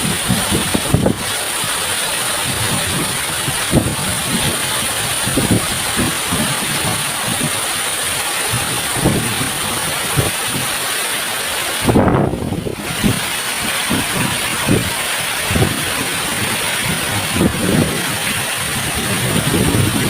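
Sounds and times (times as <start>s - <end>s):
wind buffeting microphone: 0.0s - 11.0s, 11.6s - 20.0s
waterfall rushing water: 0.0s - 20.0s.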